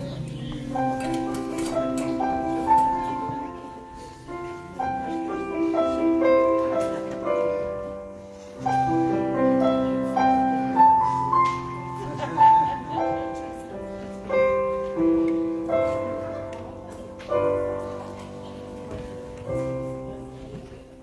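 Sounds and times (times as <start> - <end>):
slow piano piece: 0.0 - 21.0.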